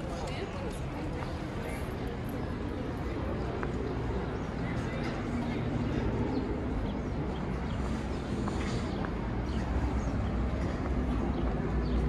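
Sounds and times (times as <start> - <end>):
faint voices: 0.0 - 12.0
traffic rumble: 0.0 - 12.0.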